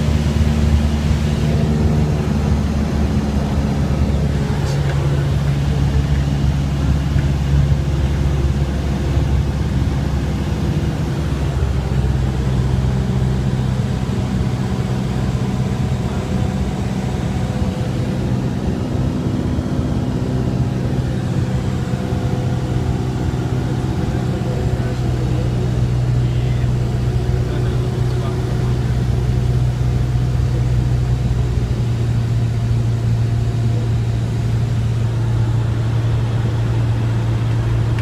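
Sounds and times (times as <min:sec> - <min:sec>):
aircraft engine and propeller drone: 0:00.0 - 0:38.0.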